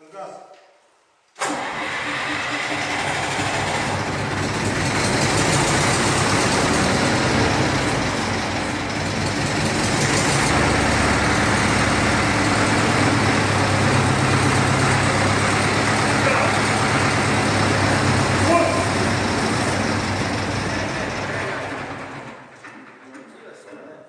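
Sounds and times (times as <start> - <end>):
tractor diesel engine idling: 1.4 - 22.7.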